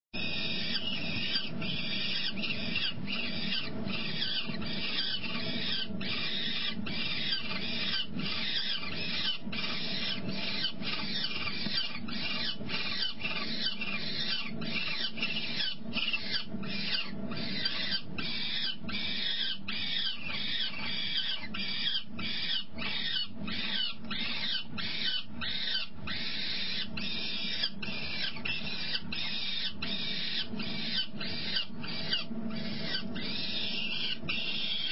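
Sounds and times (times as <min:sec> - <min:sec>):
falcons high-pitched calls: 0:00.2 - 0:34.9
steady low hum: 0:00.2 - 0:34.9.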